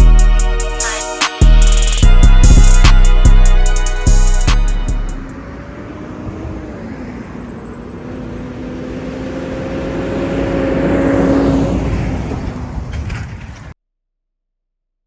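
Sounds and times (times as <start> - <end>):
large vehicle engine rumbling: 0.0 - 13.8.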